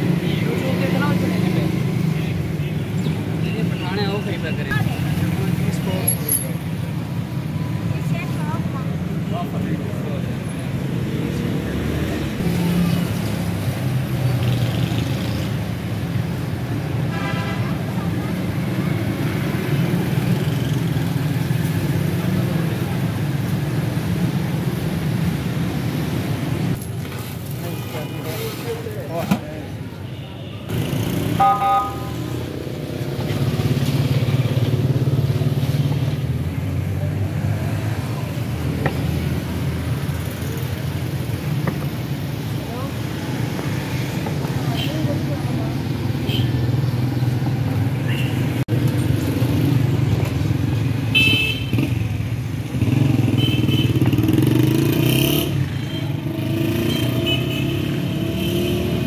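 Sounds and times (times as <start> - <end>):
street traffic engine hum: 0.0 - 59.0.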